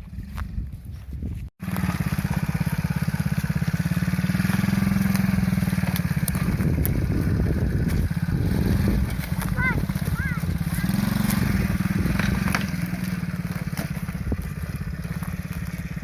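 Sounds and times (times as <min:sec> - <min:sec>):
small atv engine running: 0:01.6 - 0:16.0.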